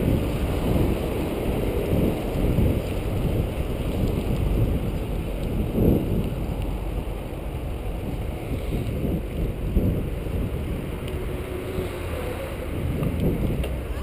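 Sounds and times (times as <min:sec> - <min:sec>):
tyres rumbling on pavement: 0:00.0 - 0:14.0
wind buffeting microphone: 0:00.0 - 0:14.0.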